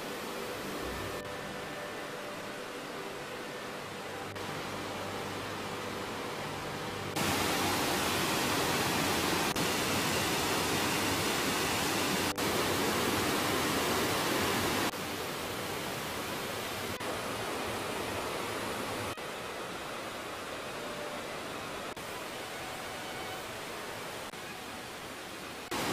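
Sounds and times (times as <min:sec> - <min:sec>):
stream rushing over boulders: 0:00.0 - 0:25.9.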